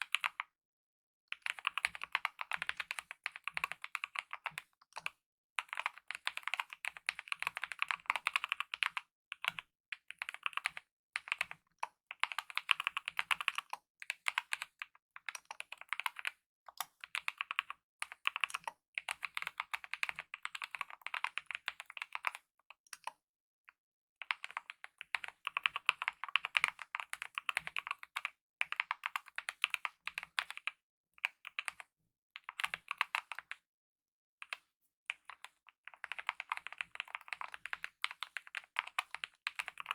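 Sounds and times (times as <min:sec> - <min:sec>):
mechanical keyboard typing: 0:01.4 - 0:11.6, 0:12.2 - 0:22.4, 0:24.2 - 0:31.8, 0:32.4 - 0:33.6, 0:35.2 - 0:39.9.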